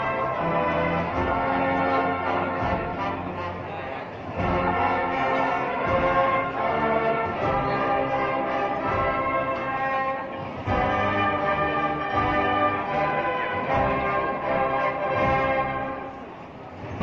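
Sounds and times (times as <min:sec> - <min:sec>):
brass and drum band march: 0:00.0 - 0:17.0.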